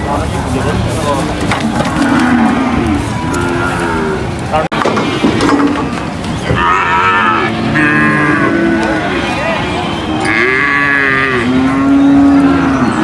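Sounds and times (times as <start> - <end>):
cattle mooing: 1.6 - 13.0.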